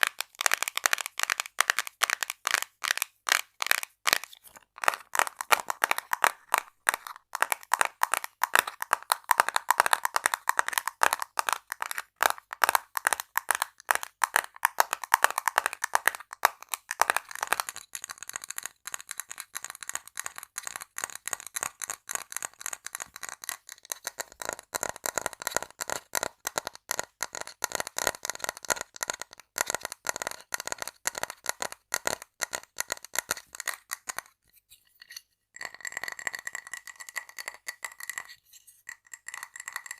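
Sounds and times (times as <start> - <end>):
rapid tapping on small objects: 0.0 - 34.4, 35.6 - 39.9.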